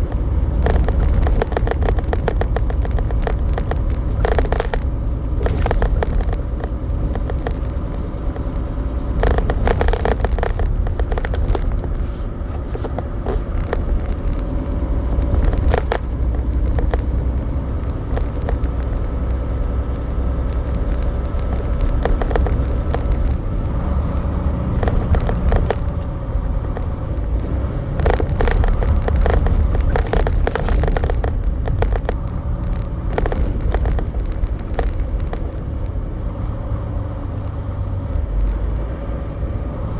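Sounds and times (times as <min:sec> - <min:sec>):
sharp rattles and clicks: 0:00.0 - 0:39.9
truck engine and road rumble: 0:00.0 - 0:39.9.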